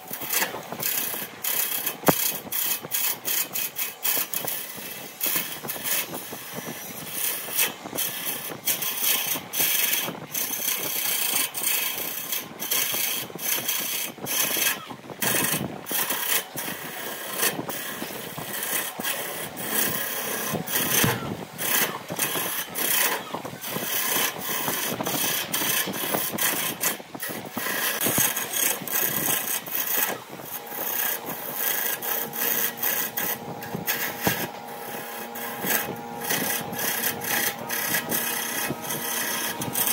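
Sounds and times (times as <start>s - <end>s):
lathe running: 0.0s - 14.7s, 15.3s - 39.9s
tool scraping wood on lathe: 0.0s - 39.9s.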